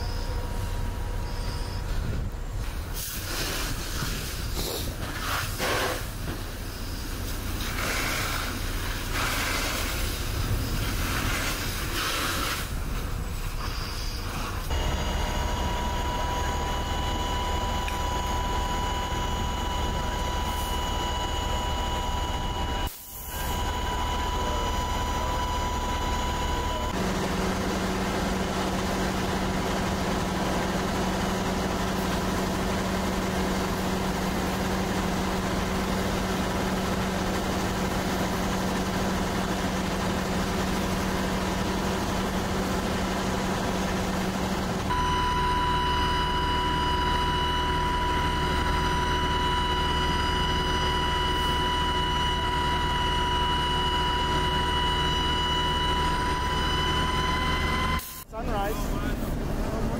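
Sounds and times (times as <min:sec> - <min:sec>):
fire engine pump running: 0:00.0 - 0:59.9.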